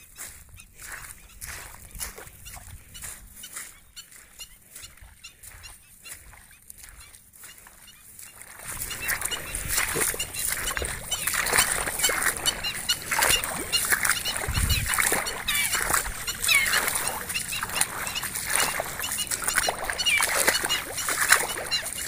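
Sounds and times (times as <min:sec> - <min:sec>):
bird yapping calls: 0:00.1 - 0:22.0.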